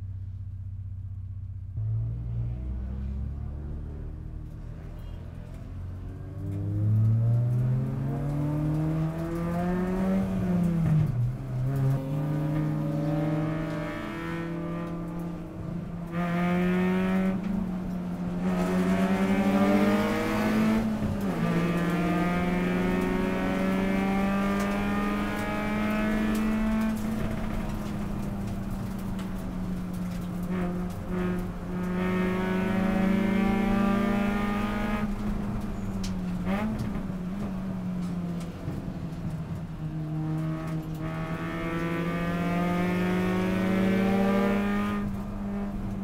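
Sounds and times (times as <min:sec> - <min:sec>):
race car engine accelerating: 0:01.8 - 0:46.0.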